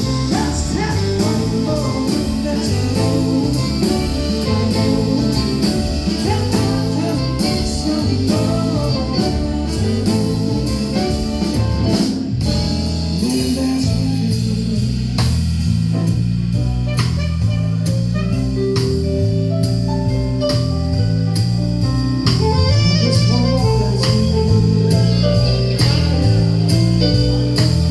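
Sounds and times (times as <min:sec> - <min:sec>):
bass line: 0:00.0 - 0:27.9
drum kit: 0:00.0 - 0:27.9.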